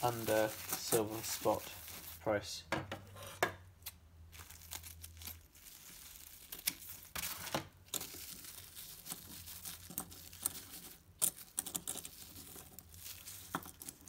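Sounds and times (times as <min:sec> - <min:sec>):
plastic wrap crinkling: 0:00.0 - 0:02.4, 0:03.8 - 0:14.0.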